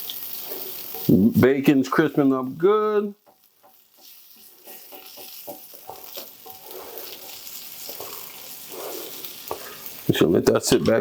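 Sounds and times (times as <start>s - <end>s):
bacon sizzling in a frying pan: 0.0s - 11.0s.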